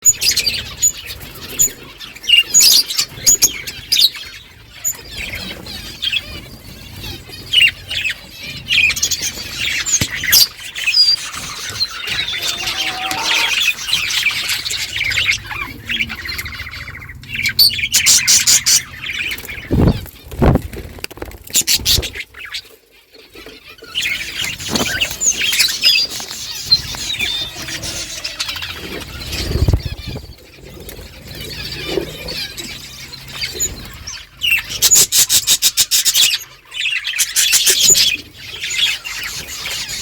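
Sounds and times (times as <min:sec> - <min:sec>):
budgerigars chirping and squawking: 0:00.1 - 0:20.5, 0:21.4 - 0:40.0.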